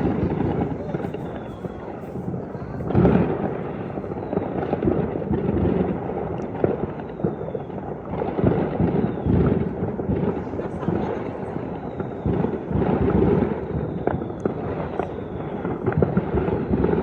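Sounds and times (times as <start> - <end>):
fireworks bangs and booms: 0.0 - 17.0.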